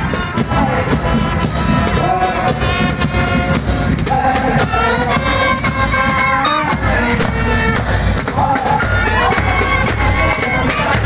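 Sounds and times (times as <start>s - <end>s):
brass melody: 0.0s - 11.0s
rapid side-drum beats: 0.0s - 11.0s.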